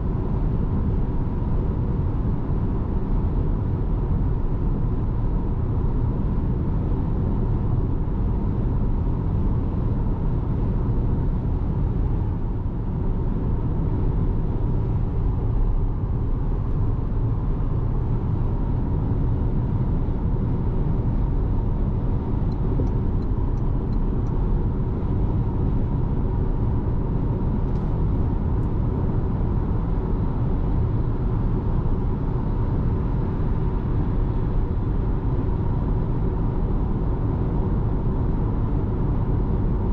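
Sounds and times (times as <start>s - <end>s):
car road and tyre rumble: 0.0s - 39.9s.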